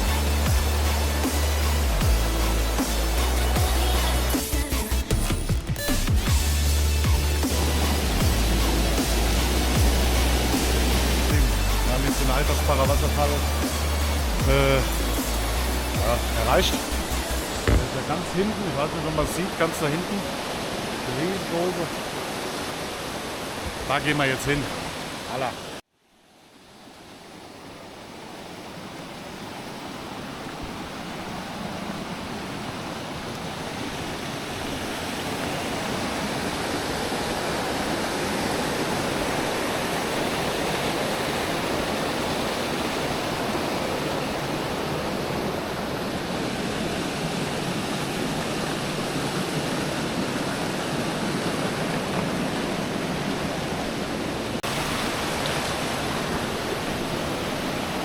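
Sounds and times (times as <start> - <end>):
waterfall rushing: 0.0 - 25.8, 27.3 - 58.0.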